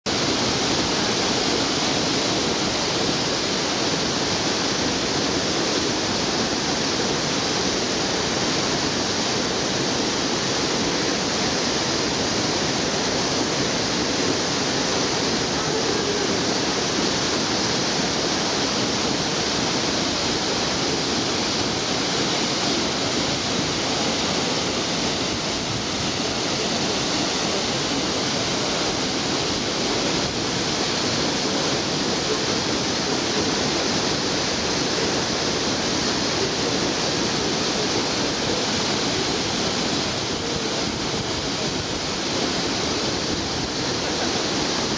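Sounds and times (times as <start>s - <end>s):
waterfall rushing: 0.1s - 44.9s.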